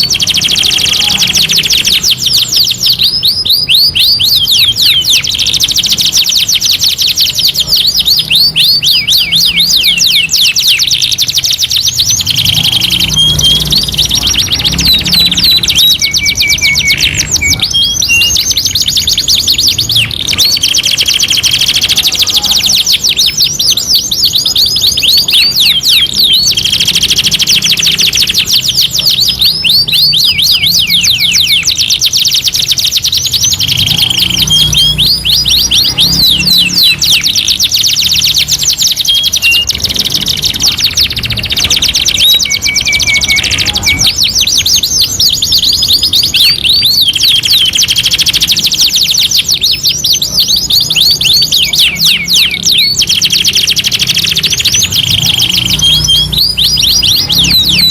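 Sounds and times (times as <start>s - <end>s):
canaries singing: 0.0s - 57.9s.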